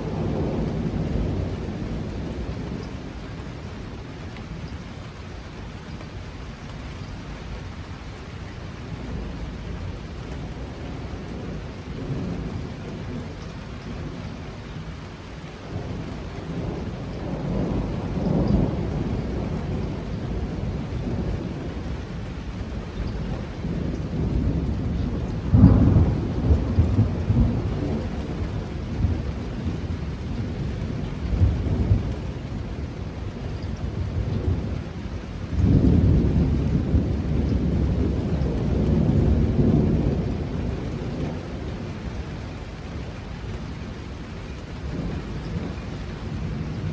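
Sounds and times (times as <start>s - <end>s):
rolling thunder: 0.0s - 4.3s, 9.0s - 14.4s, 15.6s - 46.9s
heavy rain: 0.0s - 46.9s.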